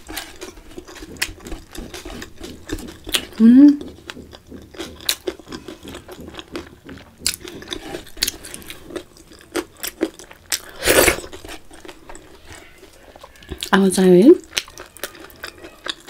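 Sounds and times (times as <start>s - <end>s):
person chewing wetly: 0.0s - 13.8s, 14.4s - 16.0s.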